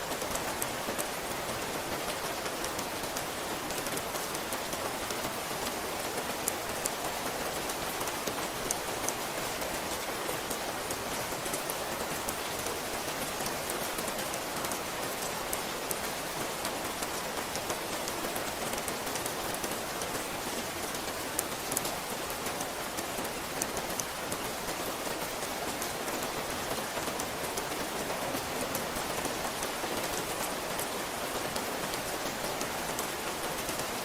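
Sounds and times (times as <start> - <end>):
steady rain hiss: 0.0 - 34.0
raindrops ticking close by: 0.1 - 34.0.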